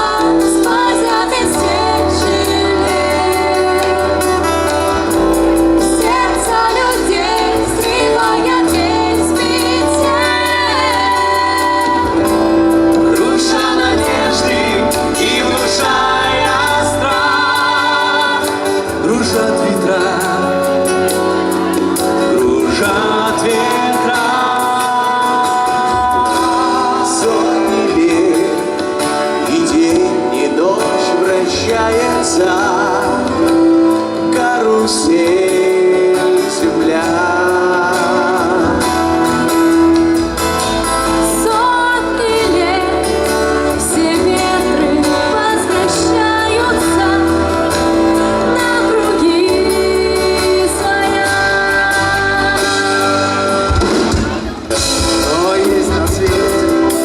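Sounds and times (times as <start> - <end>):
band with guitar and bass: 0.0 - 57.0
people singing: 0.0 - 57.0.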